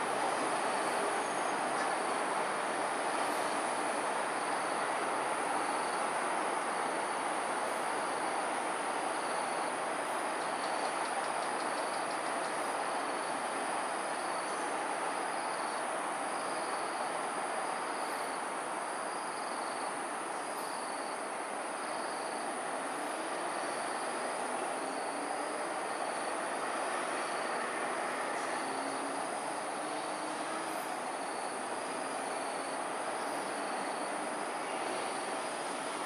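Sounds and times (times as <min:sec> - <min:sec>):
traffic noise: 0:00.0 - 0:36.0.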